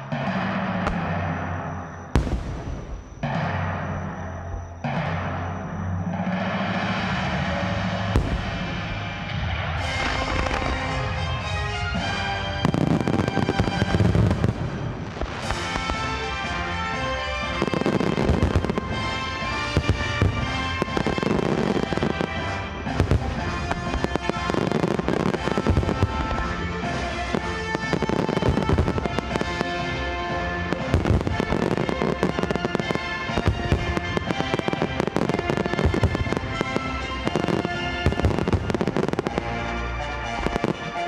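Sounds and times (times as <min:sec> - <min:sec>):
fireworks launching and bursting: 0:00.0 - 0:41.0
music with sustained tones: 0:00.0 - 0:41.0.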